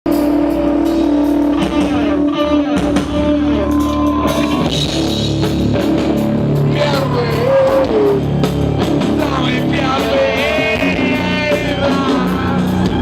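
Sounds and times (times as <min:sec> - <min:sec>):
drums: 0:00.0 - 0:13.0
electric guitar sliding notes: 0:00.1 - 0:13.0.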